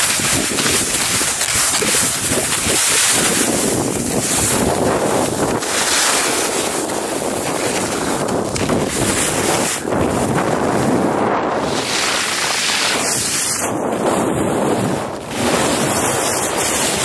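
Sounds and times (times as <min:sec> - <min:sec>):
skis sliding over snow: 0:00.0 - 0:17.0
wind on microphone: 0:00.0 - 0:17.0.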